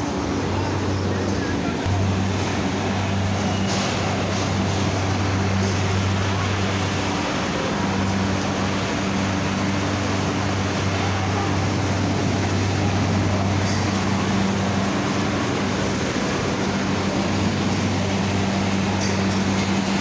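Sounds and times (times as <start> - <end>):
machinery low hum: 0.0 - 20.0
rush of mechanical noise: 0.0 - 20.0.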